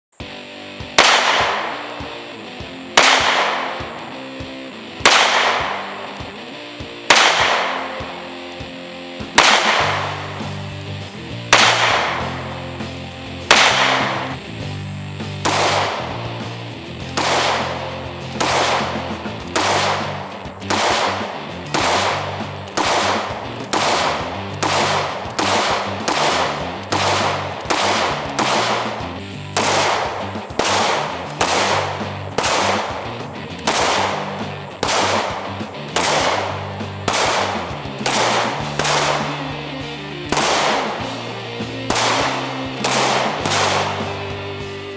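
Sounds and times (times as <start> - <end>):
music with bass line: 0.2 - 44.9
pistol shots: 0.8 - 8.6, 9.2 - 44.9.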